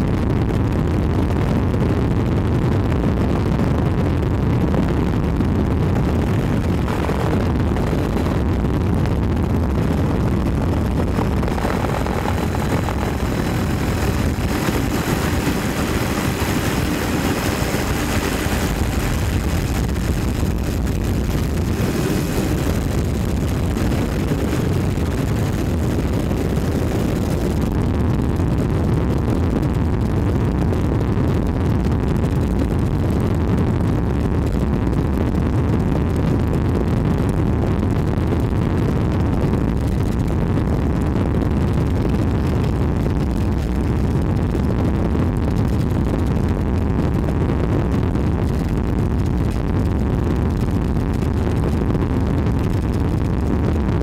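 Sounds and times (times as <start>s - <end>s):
aircraft engine rumble: 3.0s - 47.3s.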